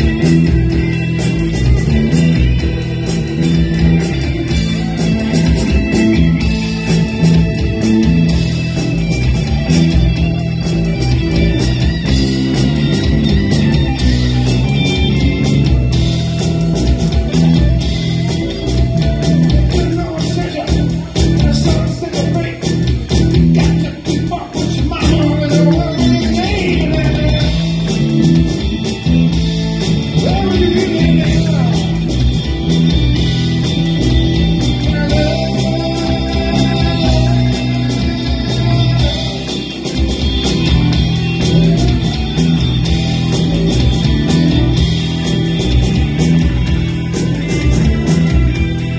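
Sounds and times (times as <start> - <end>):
drums steady beat: 0.0 - 48.9
live band playing: 0.0 - 48.9
loud bass line: 0.0 - 48.9.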